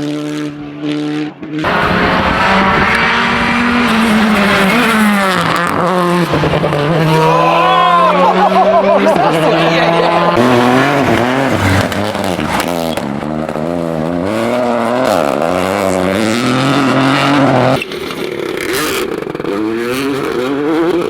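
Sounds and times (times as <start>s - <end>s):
different engine sound: 0.0s - 21.0s
rally car engine revving: 0.0s - 21.0s.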